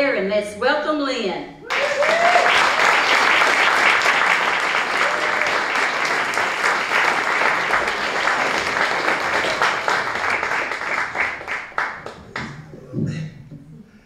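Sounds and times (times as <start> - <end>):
audience applauding: 1.7 - 13.0.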